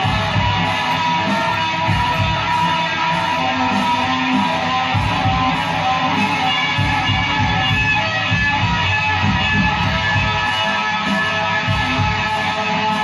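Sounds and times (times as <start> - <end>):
electric guitar playing: 0.0 - 13.0.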